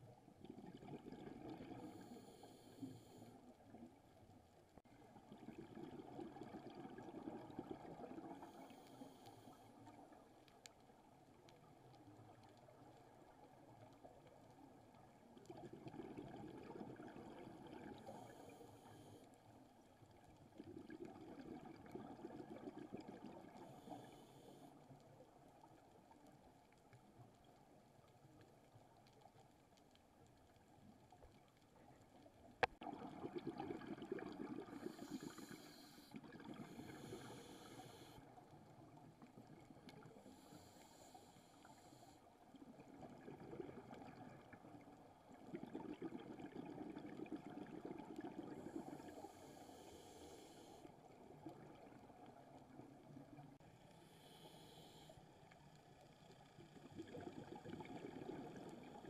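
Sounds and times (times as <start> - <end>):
muffled underwater water noise: 0.0 - 59.0.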